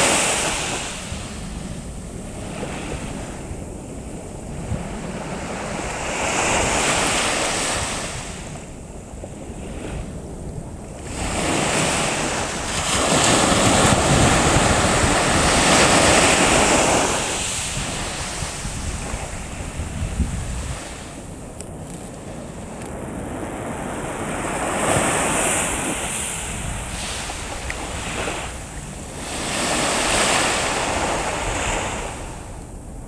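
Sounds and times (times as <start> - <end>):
sea waves washing onto shore: 0.0 - 32.8
wind rumbling on microphone: 0.0 - 33.0.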